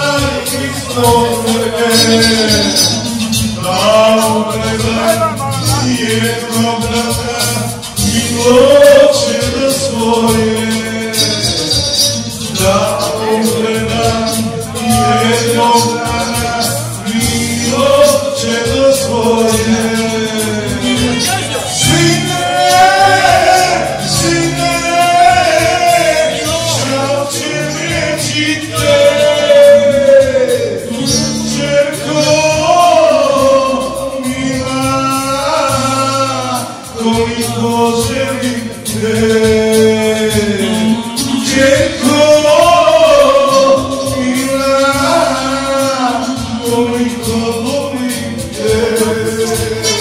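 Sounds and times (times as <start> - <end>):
instrumental accompaniment: 0.0 - 50.0
man singing folk song: 0.0 - 50.0.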